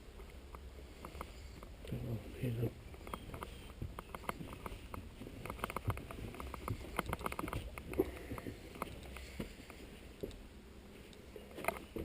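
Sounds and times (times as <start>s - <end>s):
light clicks and knocks: 0.2s - 10.4s, 11.1s - 12.0s.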